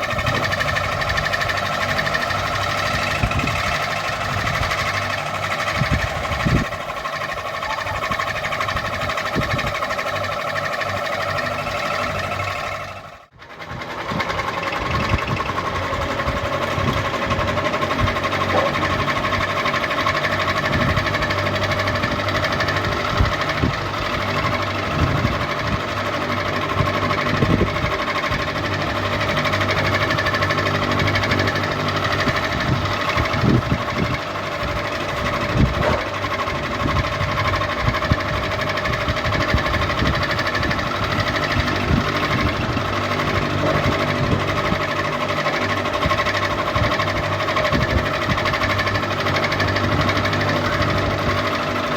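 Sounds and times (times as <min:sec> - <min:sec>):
ceiling fan whirring: 0:00.0 - 0:51.9.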